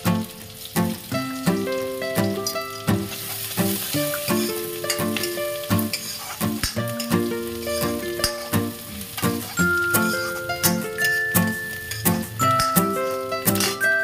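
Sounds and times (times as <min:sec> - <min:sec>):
onions sizzling in pan: 0:00.0 - 0:14.0
metal ladle stirring: 0:02.4 - 0:14.0.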